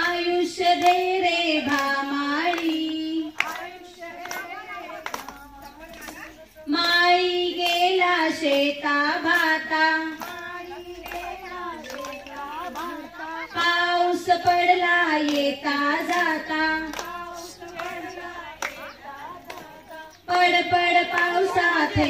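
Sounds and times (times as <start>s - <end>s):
hand claps: 0.0s - 22.0s
woman singing folk song: 0.0s - 22.0s.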